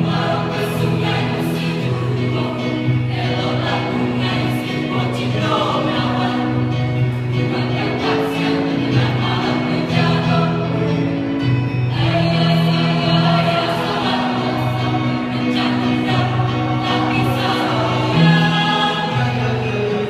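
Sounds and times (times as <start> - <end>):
choir singing in parts: 0.0 - 20.0.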